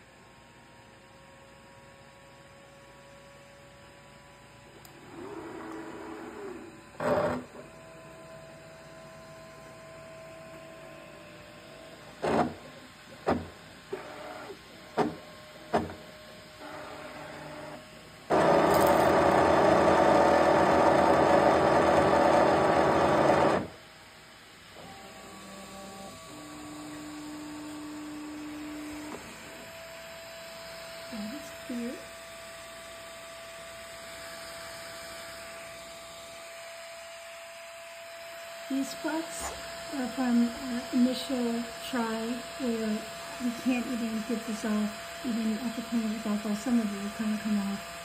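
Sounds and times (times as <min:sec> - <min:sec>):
printer motors whirring: 0:04.6 - 0:48.0.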